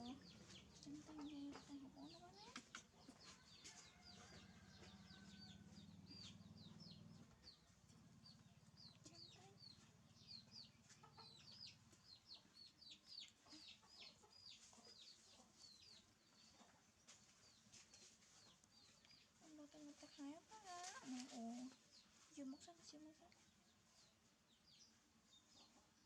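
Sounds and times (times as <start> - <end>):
chicks peeping: 0.0 - 22.5.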